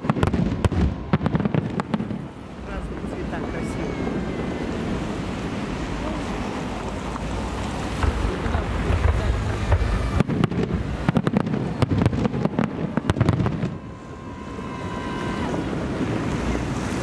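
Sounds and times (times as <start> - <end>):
fireworks bangs and crackles: 0.0 - 17.0
wind rumbling on microphone: 0.0 - 17.0.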